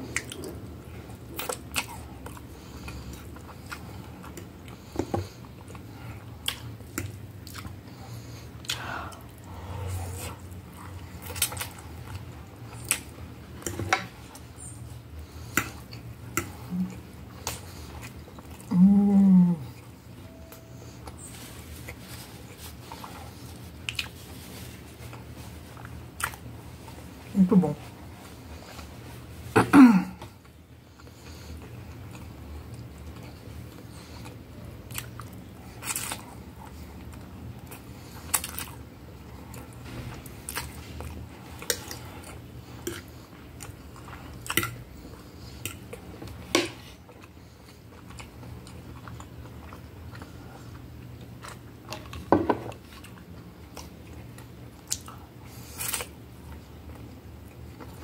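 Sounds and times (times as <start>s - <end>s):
person chewing and smacking: 0.0s - 18.7s, 19.7s - 27.2s, 30.1s - 58.0s.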